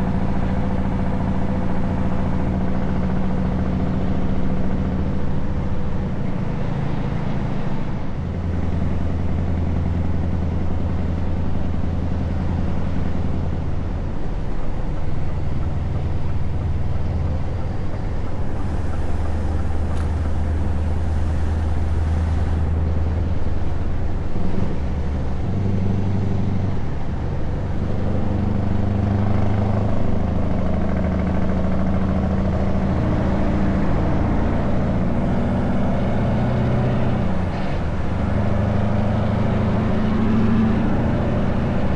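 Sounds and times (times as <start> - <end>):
truck diesel engine droning: 0.0 - 41.9.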